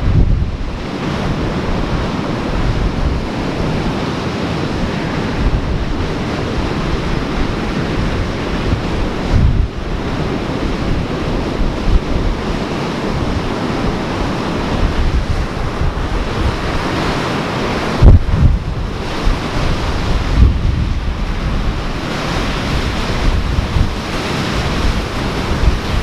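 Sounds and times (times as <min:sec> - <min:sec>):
ocean surf washing: 0:00.0 - 0:26.0
wind buffeting microphone: 0:00.0 - 0:26.0.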